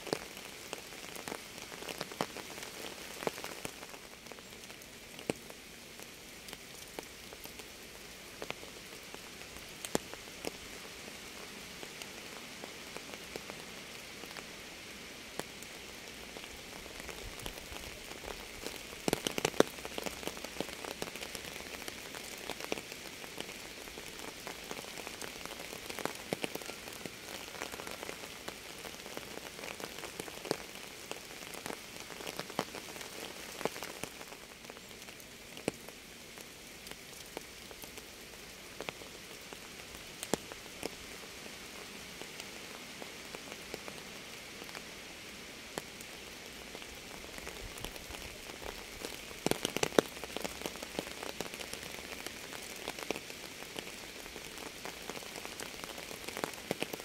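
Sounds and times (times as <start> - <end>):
raindrops ticking on a surface: 0.0 - 57.0
steady rain hiss: 0.0 - 57.0.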